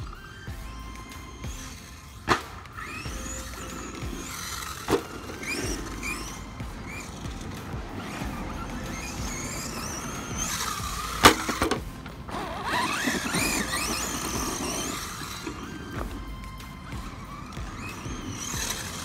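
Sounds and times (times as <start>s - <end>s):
toy truck electric motor whining: 0.0s - 19.0s.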